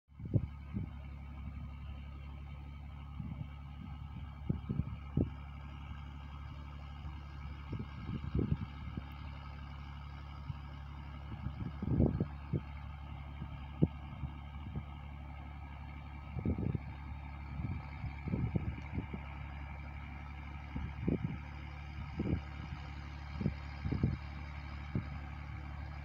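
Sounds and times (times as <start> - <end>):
distant tractor engine drone: 0.2 - 26.0.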